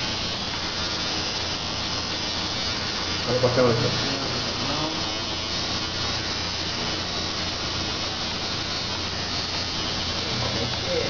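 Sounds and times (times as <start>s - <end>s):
tattoo machine buzzing: 0.0s - 11.0s.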